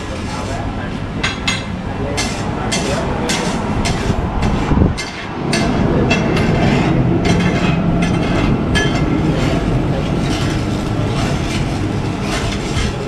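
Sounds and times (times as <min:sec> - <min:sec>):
street traffic rumble: 0:00.0 - 0:13.0
metal spatula scraping on griddle: 0:02.2 - 0:13.0.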